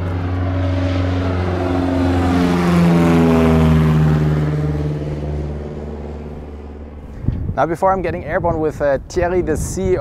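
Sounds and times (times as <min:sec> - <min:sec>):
propeller airplane flying past: 0:00.0 - 0:09.6.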